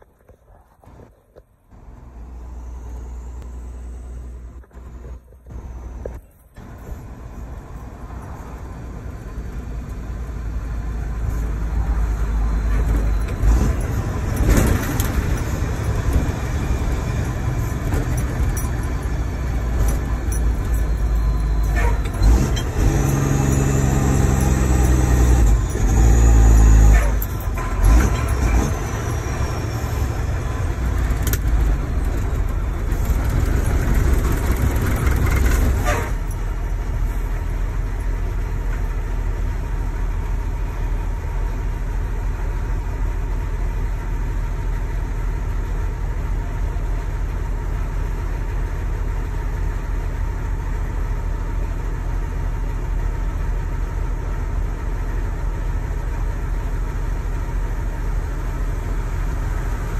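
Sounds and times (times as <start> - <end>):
truck diesel engine drone: 0.0 - 59.9.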